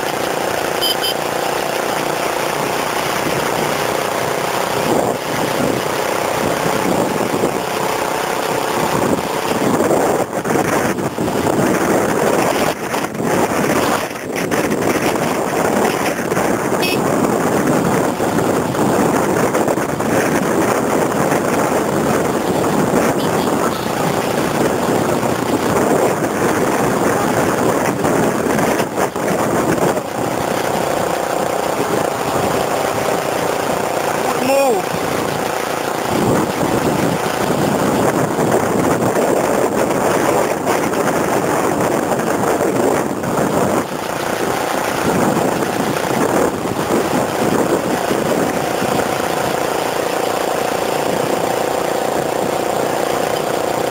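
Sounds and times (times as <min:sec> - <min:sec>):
vehicle engine running: 0:00.0 - 0:53.9
storm wind on microphone: 0:02.0 - 0:53.9.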